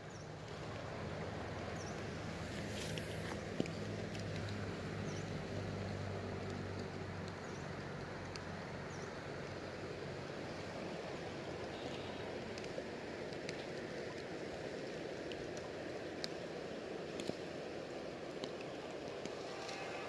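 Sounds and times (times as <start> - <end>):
shallow stream rushing: 0.0 - 20.0.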